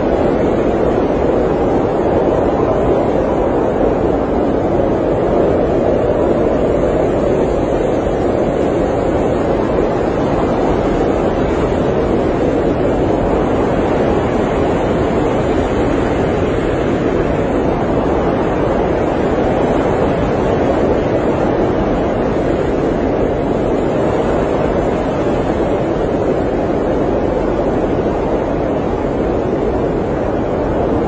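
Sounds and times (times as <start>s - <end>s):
blizzard wind rushing: 0.0s - 31.0s.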